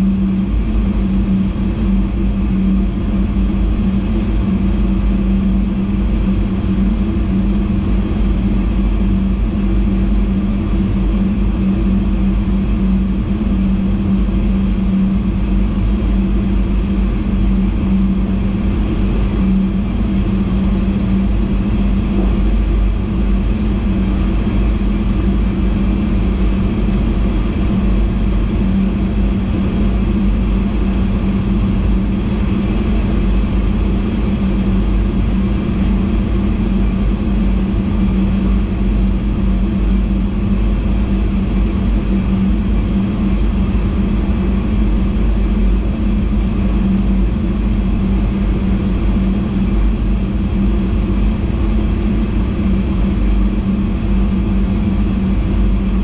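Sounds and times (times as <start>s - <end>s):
constant low hum: 0.0s - 56.0s.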